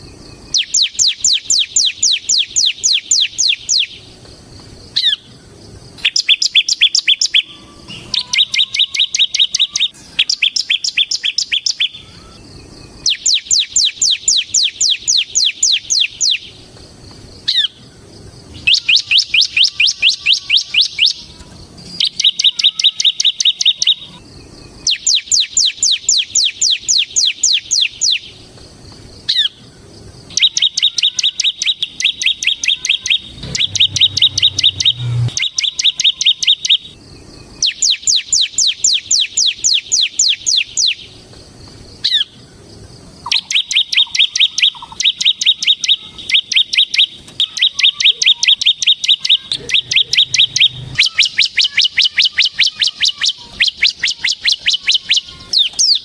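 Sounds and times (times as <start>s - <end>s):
bird singing high chirps: 0.0s - 4.2s, 4.9s - 16.6s, 17.3s - 28.4s, 29.2s - 41.2s, 42.0s - 42.5s, 43.2s - 56.0s.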